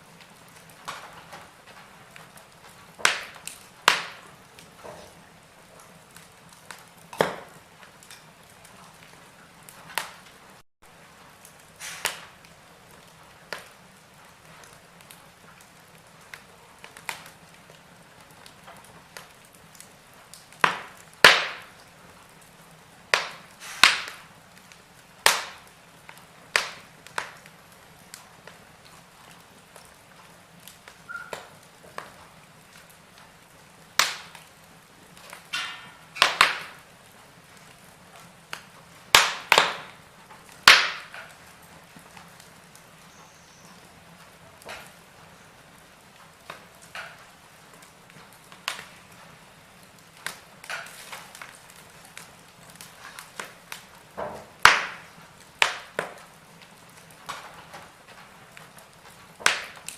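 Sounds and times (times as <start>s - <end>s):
faint steady hiss: 0.0s - 59.9s
wood fire popping and snapping: 0.0s - 59.9s.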